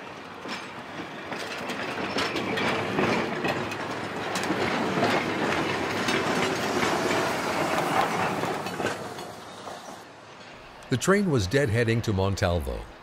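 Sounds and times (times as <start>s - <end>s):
wheels clicking over rail joints: 0.0s - 10.9s
steam train rolling past: 0.0s - 12.9s.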